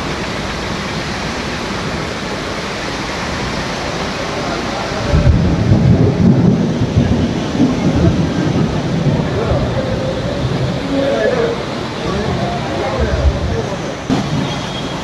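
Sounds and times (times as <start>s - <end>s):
heavy rain and floodwater hiss: 0.0s - 15.0s.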